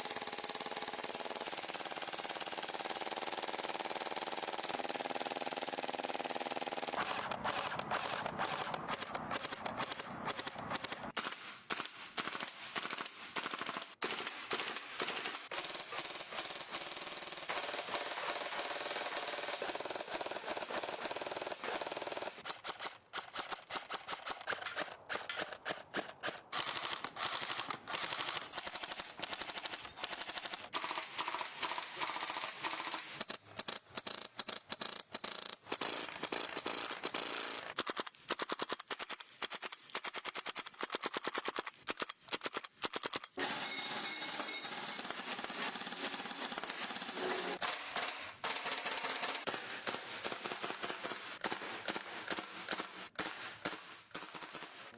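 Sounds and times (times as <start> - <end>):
airsoft guns firing bursts: 0.0 - 43.4, 44.6 - 54.9.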